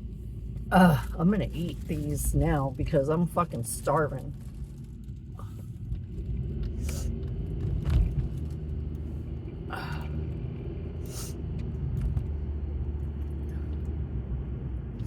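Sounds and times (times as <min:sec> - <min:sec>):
strong wind buffeting car: 0:00.0 - 0:15.0.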